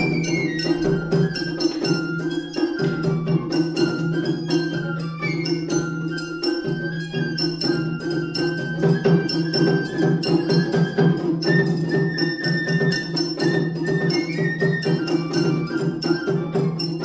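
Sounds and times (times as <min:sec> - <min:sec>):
bamboo flute high notes: 0:00.0 - 0:17.0
fast drum strokes: 0:00.0 - 0:17.0.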